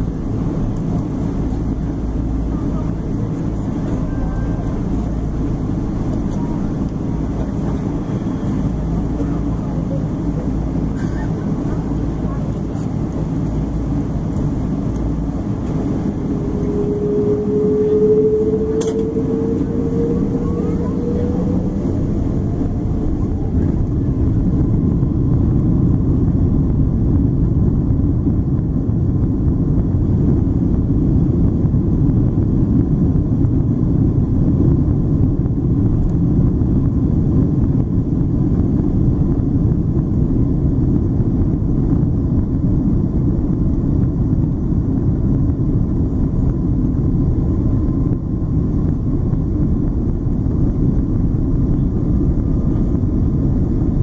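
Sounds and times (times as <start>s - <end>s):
faint engine whine rising: 0.0s - 54.0s
jet engines rumbling in cabin: 0.0s - 54.0s.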